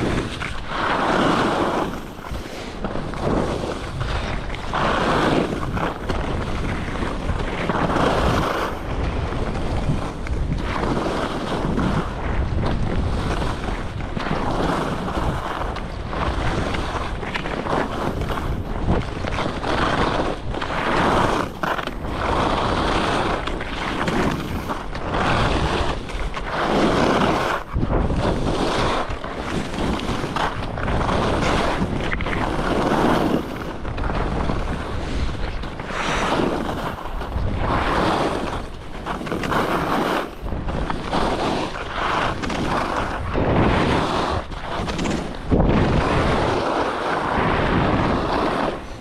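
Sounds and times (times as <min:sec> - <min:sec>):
skis scraping snow: 0:00.0 - 0:49.0
wind rushing over microphone: 0:00.0 - 0:49.0.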